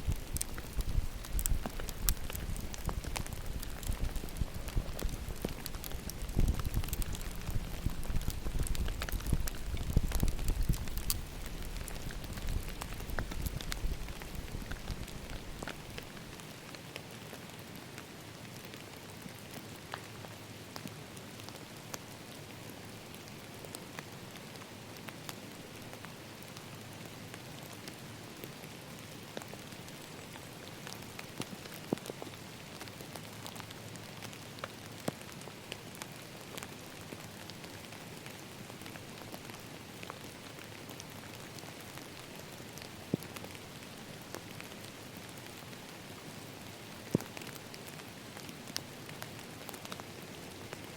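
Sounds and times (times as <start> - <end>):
steady rain patter: 0.0 - 50.9.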